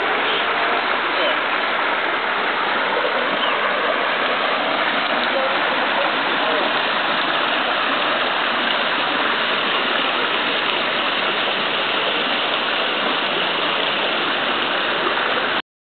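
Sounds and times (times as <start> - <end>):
water splashing into a pond: 0.0 - 15.6.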